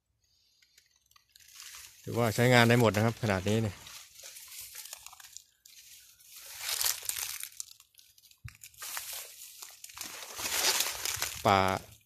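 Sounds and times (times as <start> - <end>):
footsteps crunching through dry leaves: 1.2 - 12.0.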